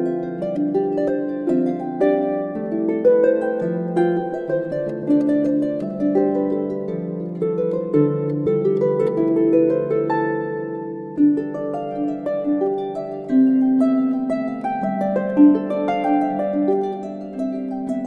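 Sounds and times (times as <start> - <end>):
plucked string melody: 0.0 - 18.0.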